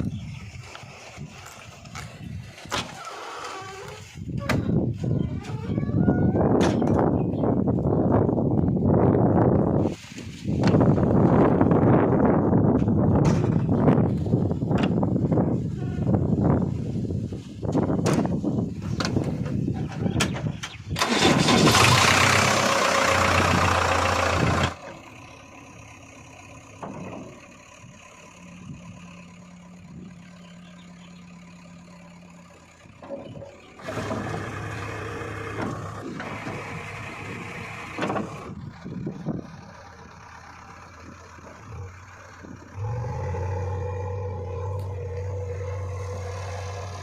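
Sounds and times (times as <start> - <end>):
diesel engines revving: 0.0 - 47.0.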